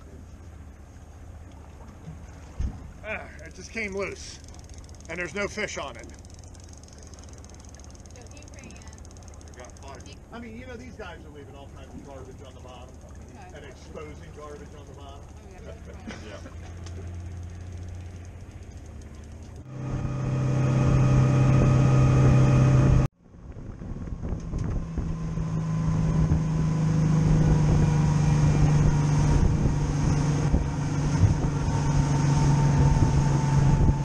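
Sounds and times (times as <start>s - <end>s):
boat engine running: 0.0s - 34.0s
wind: 0.0s - 34.0s.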